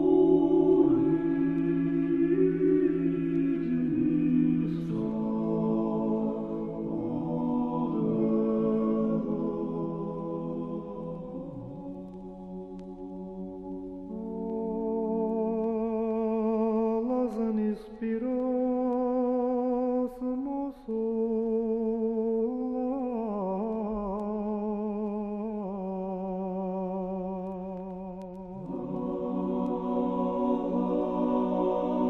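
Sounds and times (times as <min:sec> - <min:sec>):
voices singing in harmony: 0:00.0 - 0:32.0.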